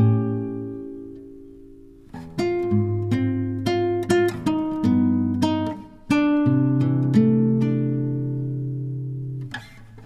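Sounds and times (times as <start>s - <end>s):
acoustic guitar picking: 0.0s - 10.0s.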